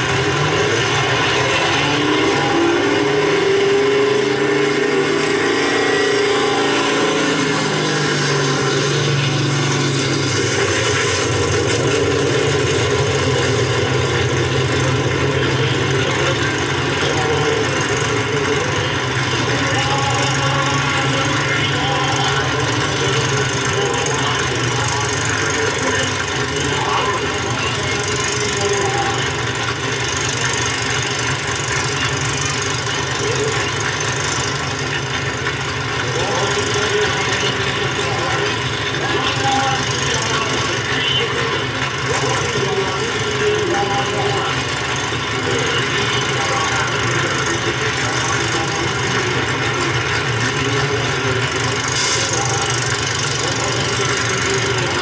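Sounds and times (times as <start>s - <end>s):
car engines droning: 0.0s - 55.0s.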